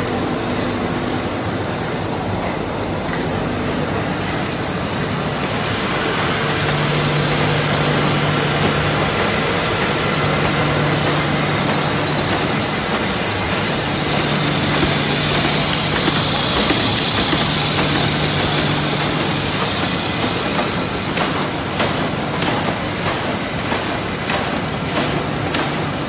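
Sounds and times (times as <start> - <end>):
laminating machine whirring: 0.0 - 26.0.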